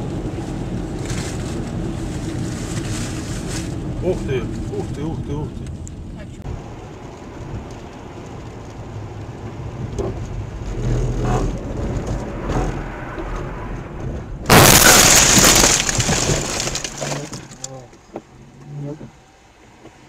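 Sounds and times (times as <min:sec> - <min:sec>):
tyre and road noise: 0:00.0 - 0:20.0.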